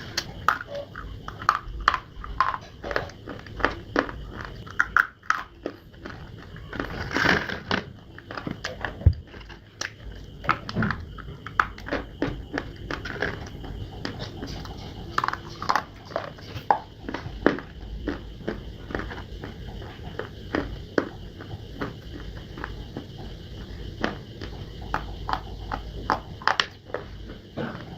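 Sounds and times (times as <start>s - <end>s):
person chewing crunchy clay: 0.0s - 27.9s.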